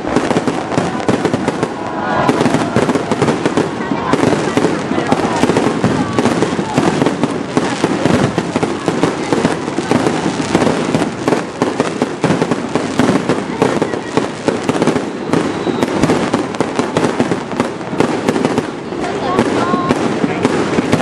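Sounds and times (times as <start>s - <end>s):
fireworks exploding: 0.0s - 21.0s.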